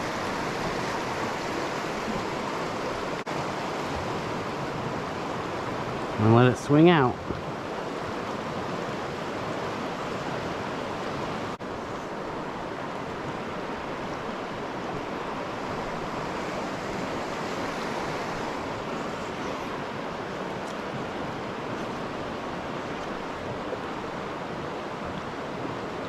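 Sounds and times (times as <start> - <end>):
stream flowing: 0.0 - 26.0.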